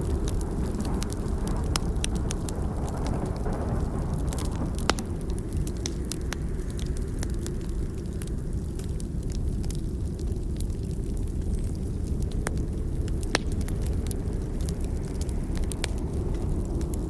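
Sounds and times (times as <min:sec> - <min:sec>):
burning log crackling and popping: 0:00.0 - 0:17.0
low rumble: 0:00.0 - 0:17.0.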